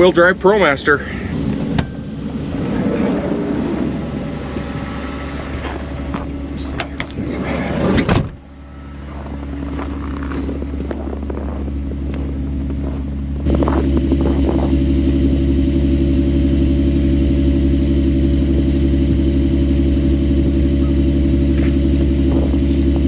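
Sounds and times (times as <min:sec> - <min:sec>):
van engine idling: 0:00.0 - 0:23.0.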